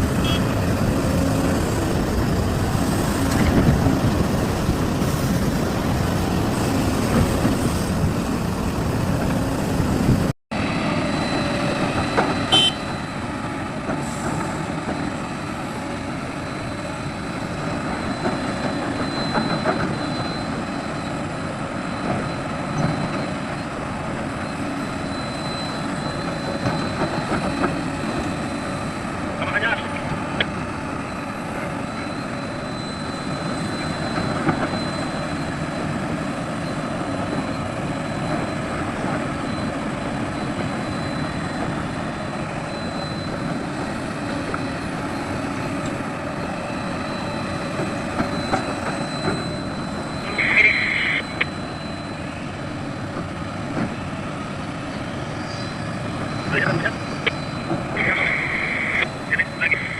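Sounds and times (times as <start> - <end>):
heavy diesel machinery rumbling: 0.0 - 59.9.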